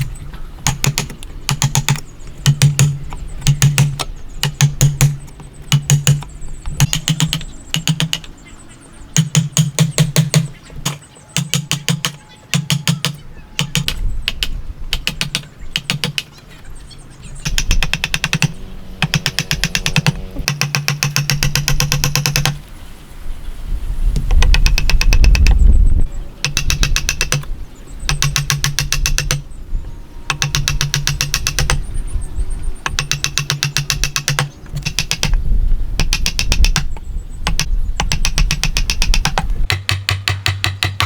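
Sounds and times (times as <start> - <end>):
sharp tapping on wood: 0.0 - 8.3, 9.2 - 16.3, 17.4 - 22.6, 24.2 - 25.6, 26.4 - 27.5, 28.1 - 29.4, 30.3 - 31.8, 32.8 - 35.4, 36.0 - 41.0.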